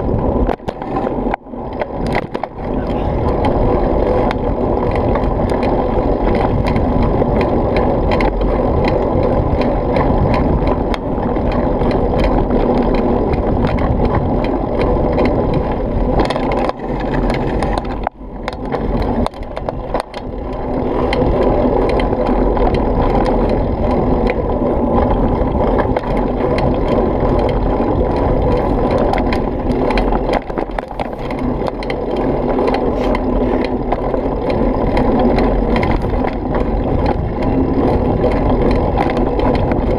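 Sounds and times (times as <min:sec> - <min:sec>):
bike rattling over bumps: 0:00.0 - 0:39.9
bike tyres rumbling on dirt: 0:00.0 - 0:39.9
wind on microphone: 0:00.0 - 0:39.9.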